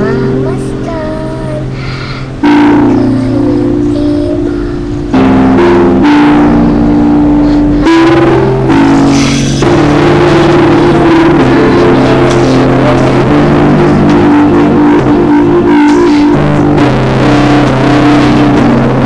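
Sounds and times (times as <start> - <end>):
loud music with held notes: 0.0 - 19.0.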